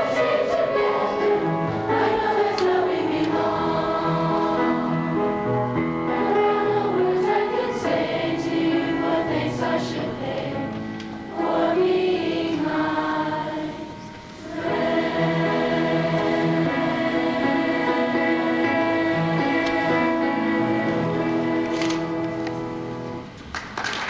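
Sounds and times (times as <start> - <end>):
choir singing sustained notes: 0.0 - 22.3
grand piano accompaniment: 0.0 - 24.0.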